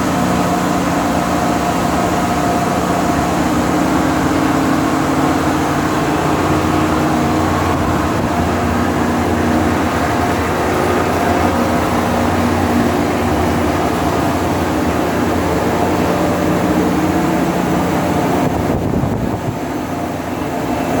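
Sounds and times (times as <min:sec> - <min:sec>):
engine-room machinery drone: 0:00.0 - 0:21.0.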